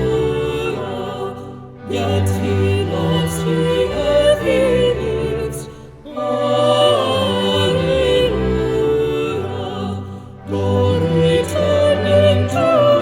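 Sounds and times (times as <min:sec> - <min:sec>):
hymn singing with music: 0:00.0 - 0:13.0.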